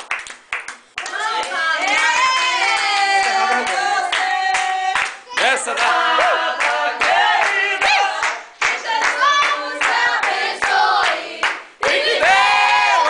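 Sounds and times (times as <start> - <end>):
rhythmic hand clapping: 0.0 - 13.0
group singing together: 1.0 - 13.0.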